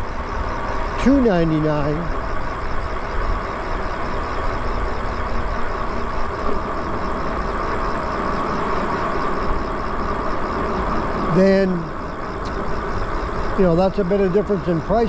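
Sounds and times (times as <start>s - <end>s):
electric bike hum: 0.0s - 15.0s.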